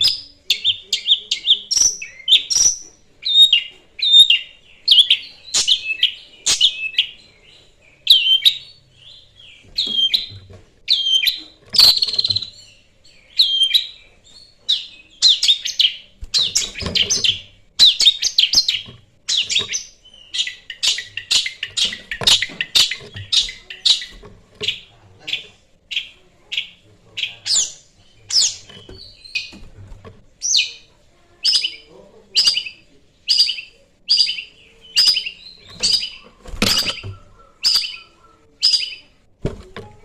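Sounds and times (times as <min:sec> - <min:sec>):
bird singing harsh chattering phrases: 0:00.0 - 0:40.0.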